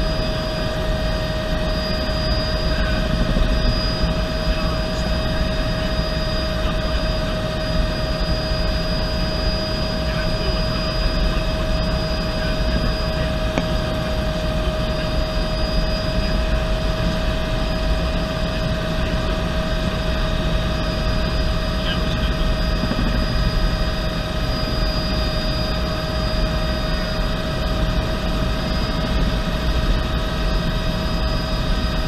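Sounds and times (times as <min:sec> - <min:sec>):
helicopter turbine whine: 0:00.0 - 0:32.0
rotor and airflow rumble: 0:00.0 - 0:32.0.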